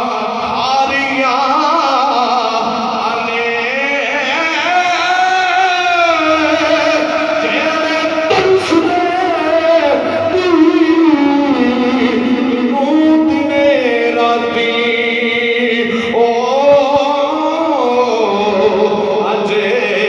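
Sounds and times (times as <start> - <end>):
man chanting into a microphone: 0.0 - 20.0.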